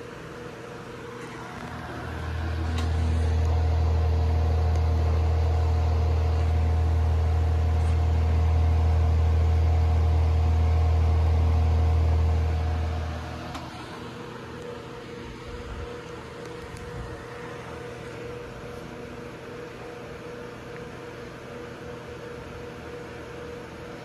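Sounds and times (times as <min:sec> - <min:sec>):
table fan motor hum: 0:00.0 - 0:24.0.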